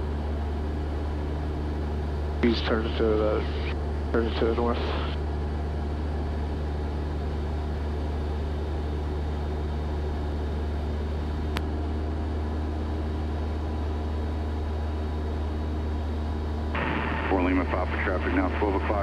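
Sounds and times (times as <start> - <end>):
airplane engine and propeller drone: 0.0 - 19.0.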